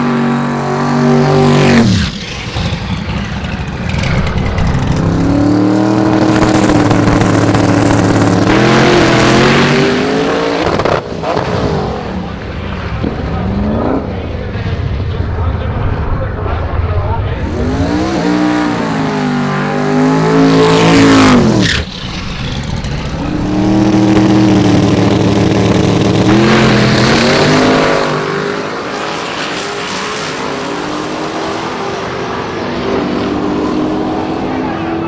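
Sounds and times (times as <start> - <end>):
race car engine revving: 0.0 - 14.8, 17.3 - 35.0.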